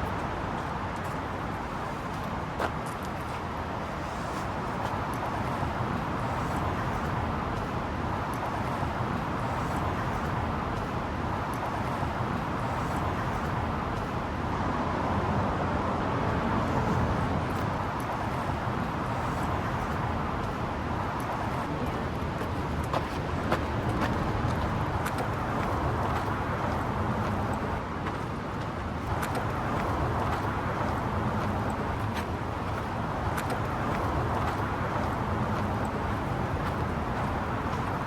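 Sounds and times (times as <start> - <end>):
faint footsteps on trail: 0.0 - 14.5, 16.3 - 38.0
creek water rushing: 0.0 - 38.0.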